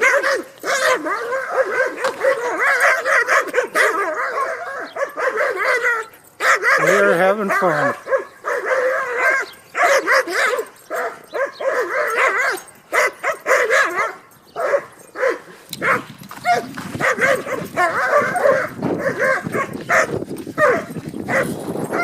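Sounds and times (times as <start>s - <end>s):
dog yipping and whining: 0.0s - 22.0s.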